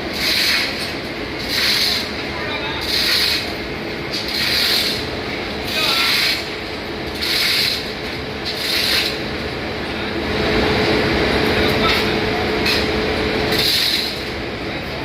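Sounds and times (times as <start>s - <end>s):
engine room machinery noise: 0.0s - 15.0s
steady hum: 0.0s - 15.0s.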